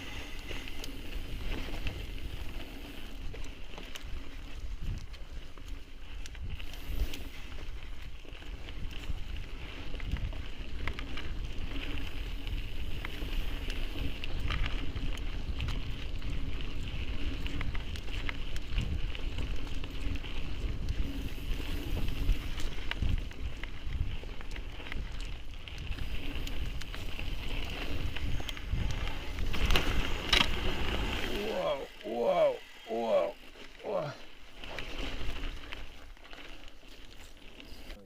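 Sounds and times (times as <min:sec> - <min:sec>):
wind buffeting microphone: 0:00.0 - 0:33.4
bike rattling: 0:00.0 - 0:38.0
tyres crunching over stones: 0:00.0 - 0:38.0.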